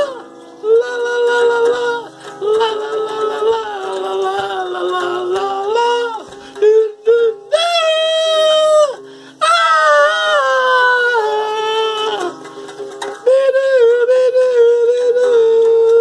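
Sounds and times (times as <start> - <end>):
acoustic guitar: 0.0 - 16.0
man singing long notes: 0.0 - 16.0.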